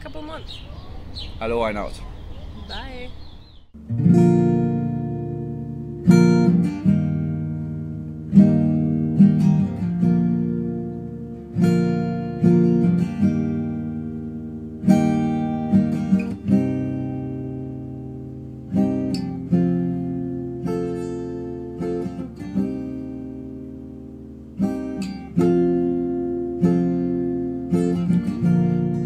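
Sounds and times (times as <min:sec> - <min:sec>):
strummed chords: 0:03.8 - 0:29.0.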